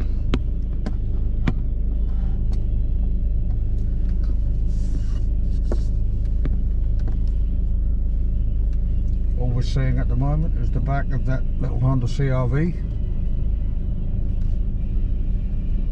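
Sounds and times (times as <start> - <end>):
car road rumble: 0.0 - 15.9.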